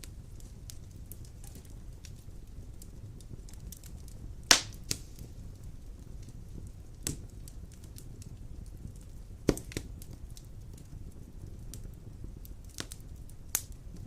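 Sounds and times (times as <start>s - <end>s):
logs burning with crackles and pops: 0.0s - 14.0s.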